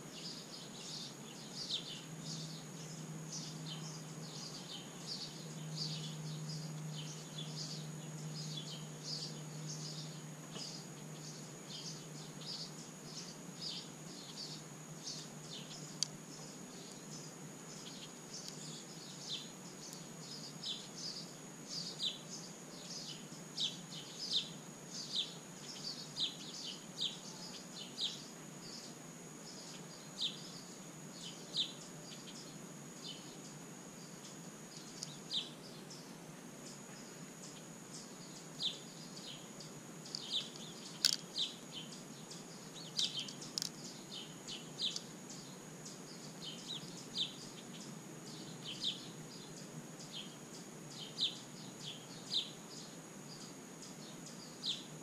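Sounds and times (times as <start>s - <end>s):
low outdoor background noise: 0.0s - 55.0s
small birds chirping: 0.0s - 55.0s.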